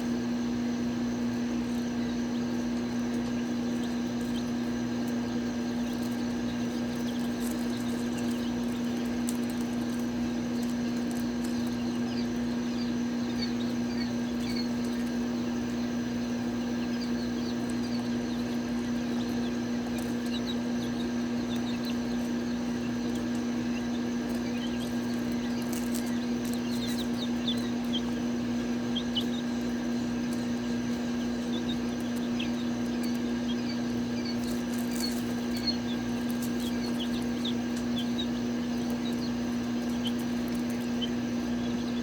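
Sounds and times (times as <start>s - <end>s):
chicks peeping: 0.0s - 42.0s
steady low hum: 0.0s - 42.0s.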